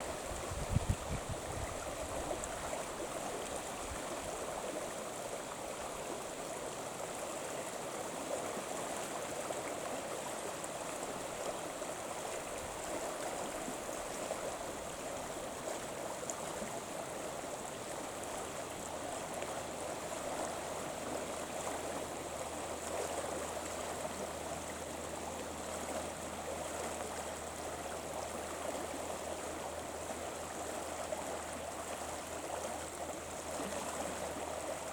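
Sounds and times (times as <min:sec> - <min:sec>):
flowing river water: 0:00.0 - 0:34.9.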